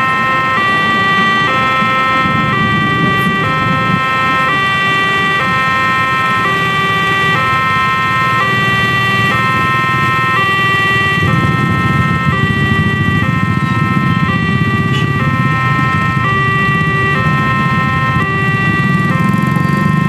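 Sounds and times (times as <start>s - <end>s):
motorcycles and cars rumbling: 0.0s - 20.0s.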